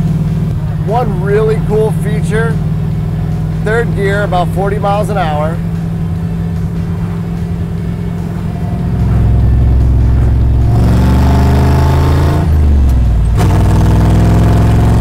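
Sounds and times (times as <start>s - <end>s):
engine revving with loud exhaust: 0.0s - 15.0s.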